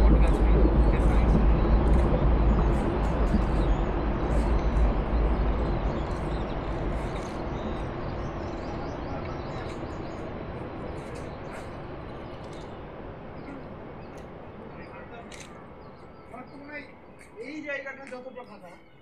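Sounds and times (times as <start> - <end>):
low rumble: 0.0 - 16.1.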